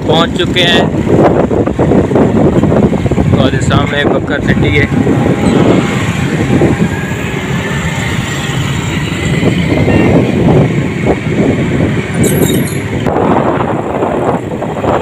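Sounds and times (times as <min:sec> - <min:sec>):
motorcycle running: 0:00.0 - 0:15.0
wind buffeting microphone: 0:00.0 - 0:15.0.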